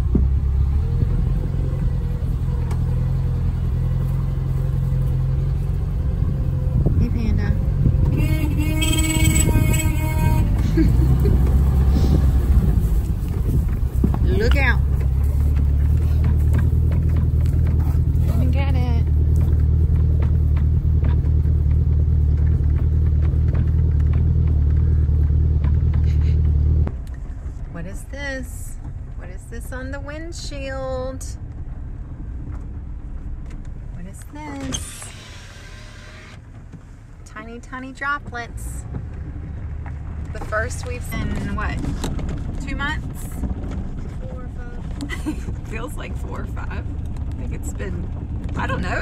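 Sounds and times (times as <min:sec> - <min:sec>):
truck engine running: 0:00.0 - 0:49.0.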